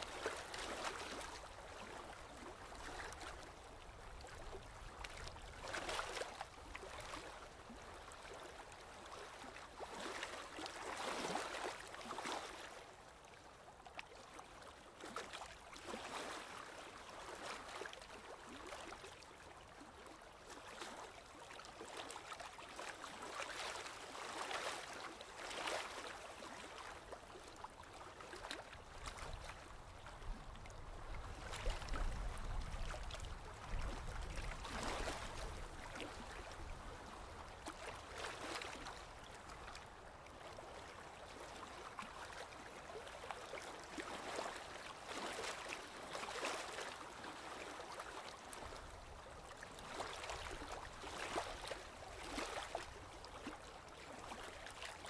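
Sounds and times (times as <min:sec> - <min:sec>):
sea water lapping and splashing: 0:00.0 - 0:55.0.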